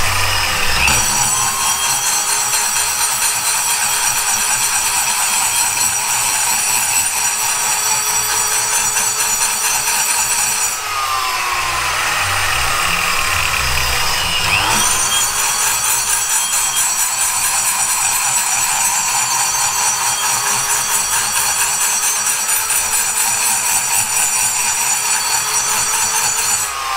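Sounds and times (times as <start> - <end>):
high-pitched rotary grinder whine: 0.0 - 26.9.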